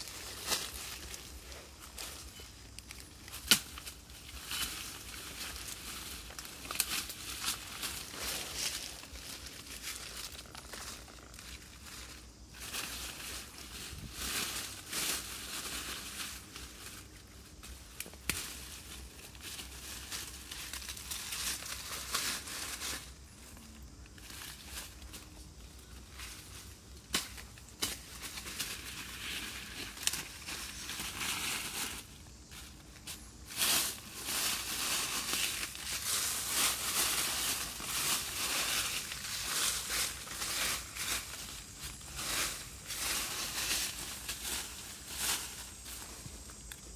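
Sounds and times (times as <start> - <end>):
dry leaves rustling and crackling: 0.0 - 46.9.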